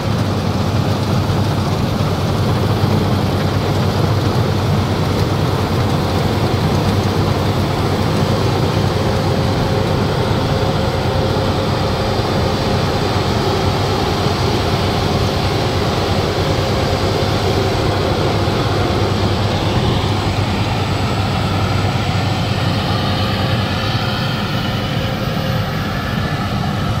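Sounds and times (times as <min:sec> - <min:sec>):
combine harvester engine drone: 0:00.0 - 0:27.0.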